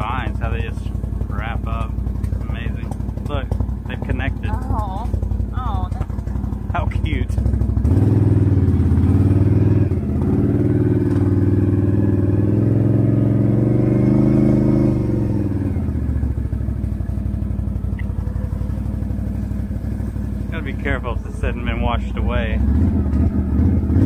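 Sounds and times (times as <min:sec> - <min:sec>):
atv engine running loud: 0:00.0 - 0:24.0.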